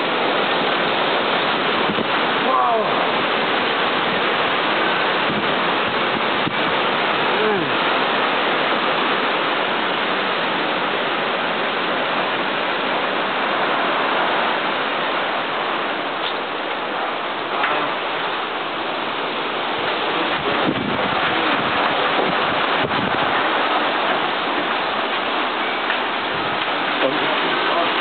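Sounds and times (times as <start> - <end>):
heavy rain pouring: 0.0 - 28.0
wind gusting through trees: 0.0 - 28.0.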